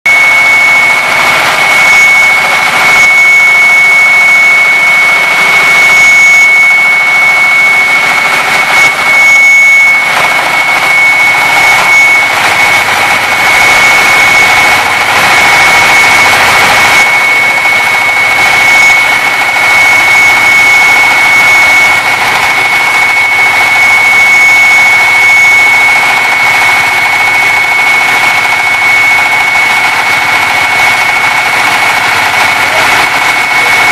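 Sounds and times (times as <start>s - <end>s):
concrete cutting machine running: 0.1s - 33.9s.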